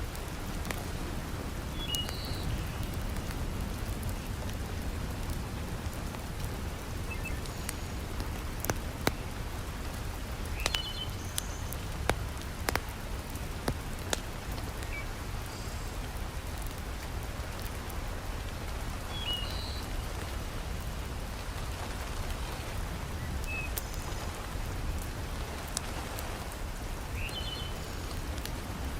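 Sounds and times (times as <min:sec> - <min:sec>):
heavy rain falling: 0:00.0 - 0:28.9
wood fire crackling: 0:00.0 - 0:28.9.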